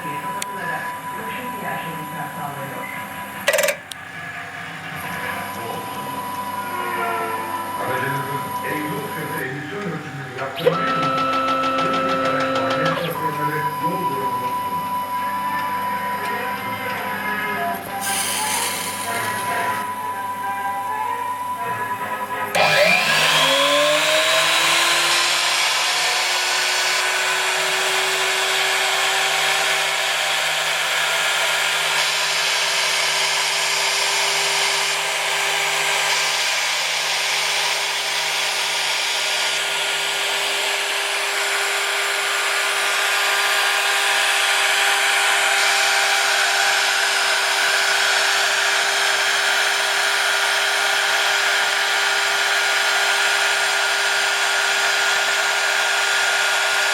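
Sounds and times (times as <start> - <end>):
drill spindle motor whining: 0.0 - 56.9.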